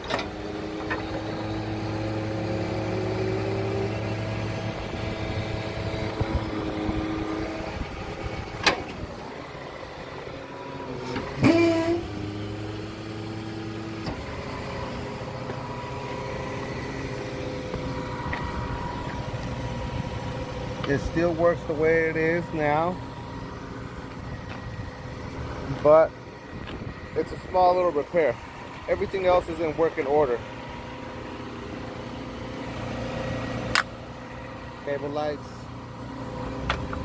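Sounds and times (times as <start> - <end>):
hydraulic pump droning: 0.0 - 37.0.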